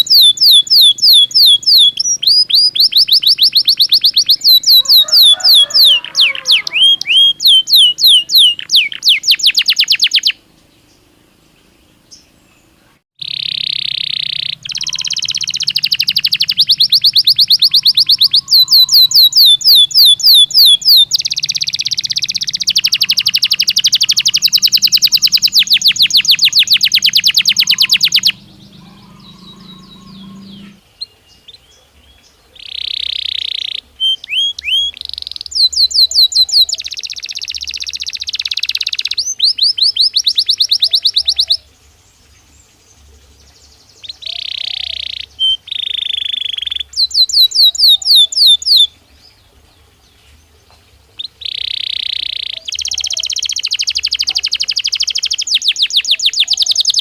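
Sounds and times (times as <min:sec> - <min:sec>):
canary singing trills: 0:00.0 - 0:11.0, 0:11.6 - 0:41.7, 0:42.6 - 0:57.0.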